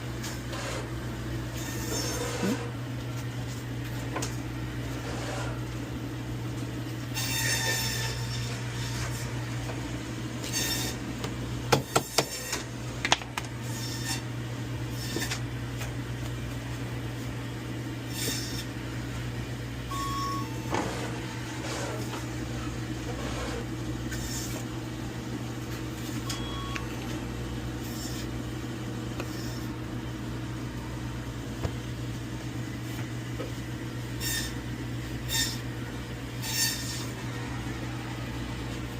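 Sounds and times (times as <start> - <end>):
low electric hum: 0.0 - 38.9.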